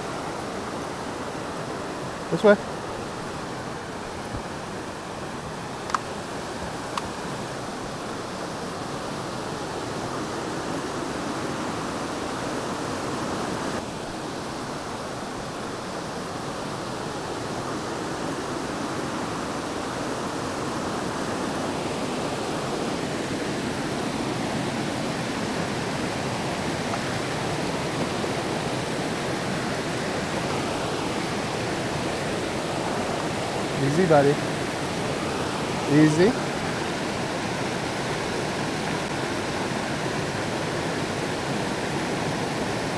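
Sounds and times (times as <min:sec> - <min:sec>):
brook water rushing: 0:00.0 - 0:42.9.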